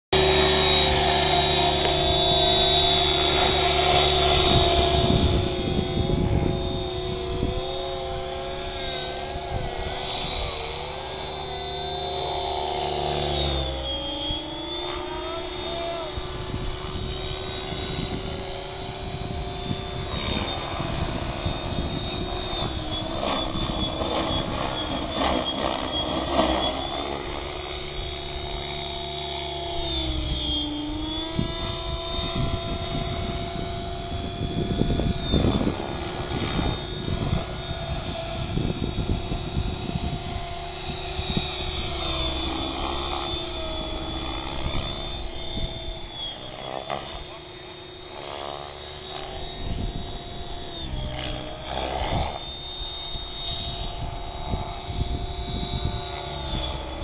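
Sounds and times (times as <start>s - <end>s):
rc helicopter whine: 0.1s - 57.0s.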